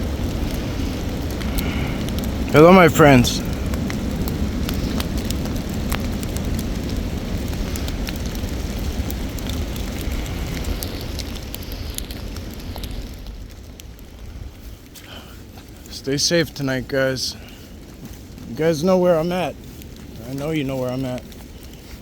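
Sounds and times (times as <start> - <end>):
sharp crackling ticks: 0.0 - 22.0
wind buffeting microphone: 0.0 - 22.0.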